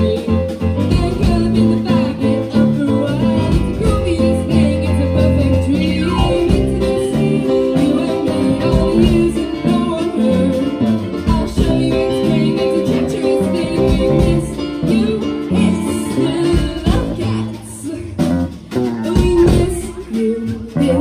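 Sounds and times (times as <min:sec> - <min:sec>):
bass guitar: 0:00.0 - 0:21.0
drums: 0:00.0 - 0:21.0
girl singing lead: 0:00.0 - 0:21.0.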